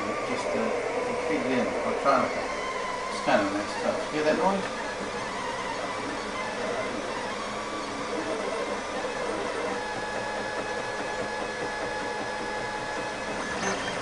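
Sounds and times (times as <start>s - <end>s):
printer stepper motors whirring: 0.0s - 14.0s.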